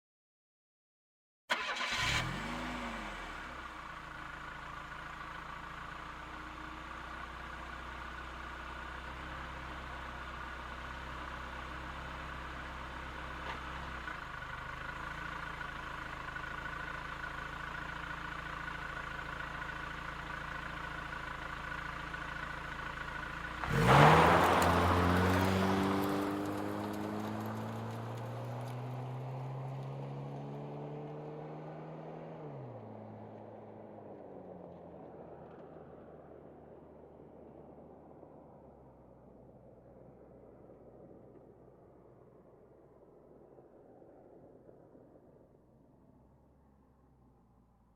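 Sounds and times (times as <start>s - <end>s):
car engine idling and revving: 1.5s - 47.9s.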